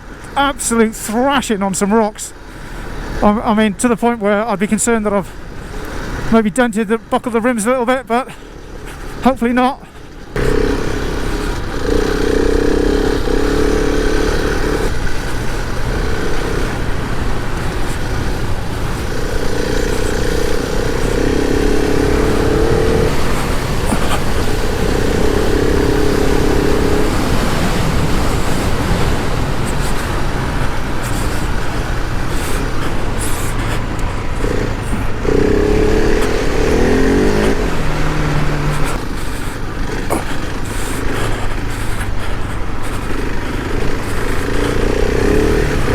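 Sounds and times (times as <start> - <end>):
steady rushing noise: 0.0 - 45.9
motorcycle engine revving: 2.3 - 45.9.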